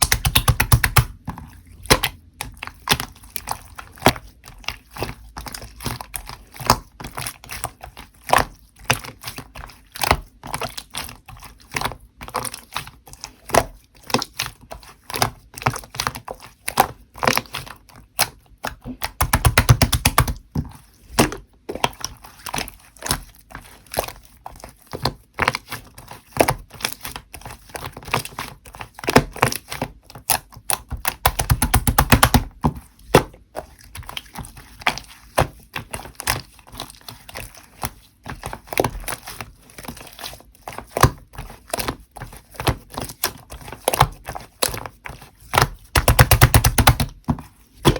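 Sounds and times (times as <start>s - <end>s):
slime squelching and popping: 0.0s - 47.9s.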